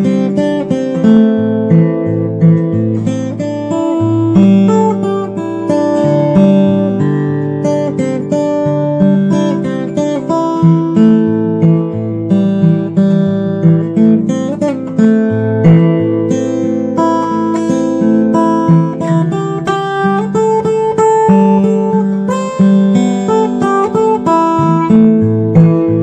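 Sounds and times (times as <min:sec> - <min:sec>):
fingerstyle acoustic guitar: 0:00.0 - 0:26.0.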